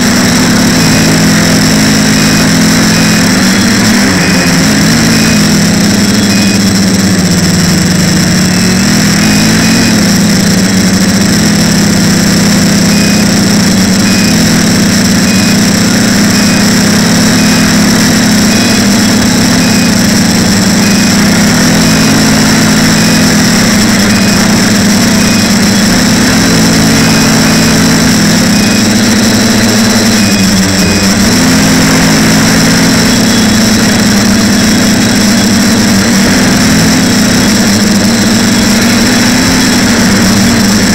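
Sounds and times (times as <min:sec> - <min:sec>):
drone propellers buzzing: 0:00.0 - 0:40.9
steady high whine: 0:00.0 - 0:40.9.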